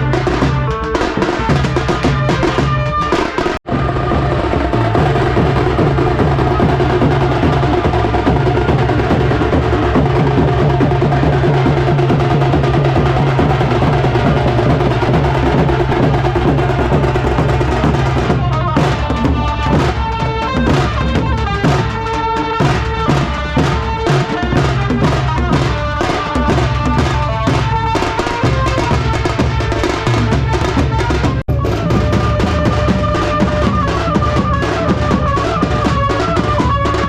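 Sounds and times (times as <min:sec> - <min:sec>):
drums playing fast rhythm: 0:00.0 - 0:37.0.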